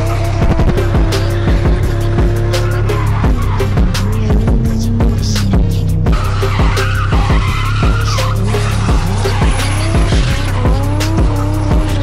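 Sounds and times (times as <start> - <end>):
car engine revving: 0.0 - 12.0
music with heavy bass: 0.0 - 12.0
tyres squealing: 0.0 - 12.0.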